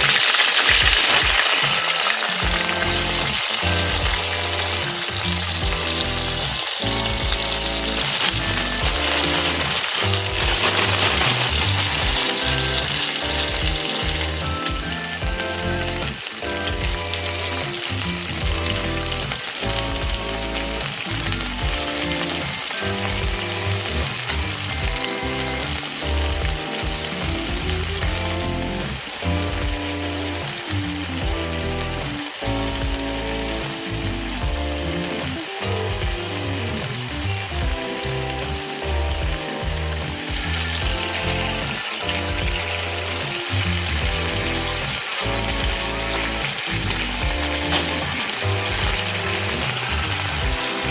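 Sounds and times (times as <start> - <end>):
background music of held notes: 0.0 - 50.9
food sizzling in a pan: 0.0 - 50.9.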